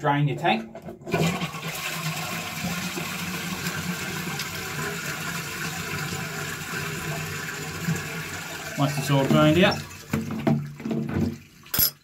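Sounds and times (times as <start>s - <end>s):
toilet flushing water rushing: 0.8s - 11.7s.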